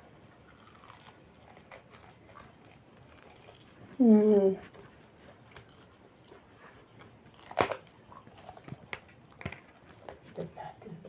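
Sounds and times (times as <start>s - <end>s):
crunchy chewing: 0.4s - 4.0s, 5.2s - 10.5s.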